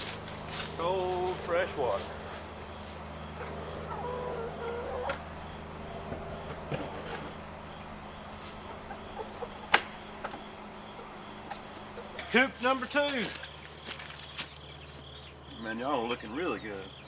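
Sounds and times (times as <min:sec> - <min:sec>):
insects droning: 0:00.0 - 0:17.0
hens clucking: 0:00.9 - 0:16.8.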